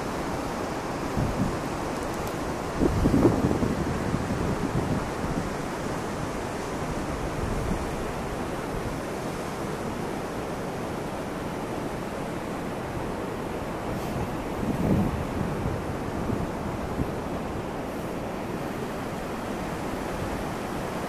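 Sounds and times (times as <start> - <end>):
wind blowing across microphone: 0.0 - 21.0.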